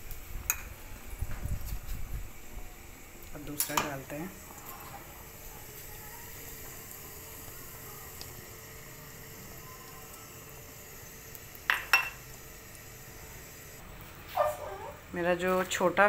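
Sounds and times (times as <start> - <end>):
egg sizzling in oil: 0.0 - 15.8.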